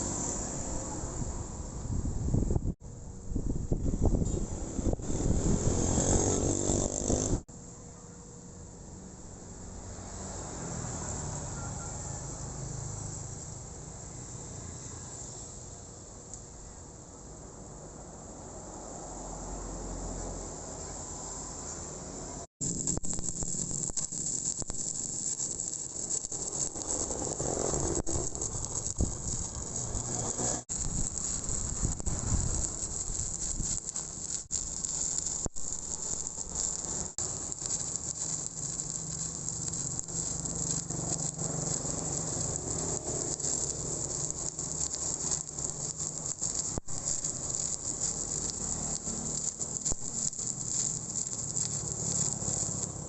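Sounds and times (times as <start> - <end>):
welding arc crackling and sizzling: 0.0 - 7.6, 8.5 - 53.0.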